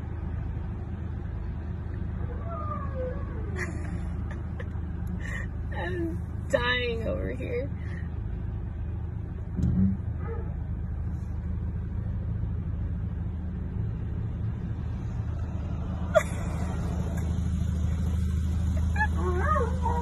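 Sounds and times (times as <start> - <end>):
car engine idling: 3.2 - 20.0.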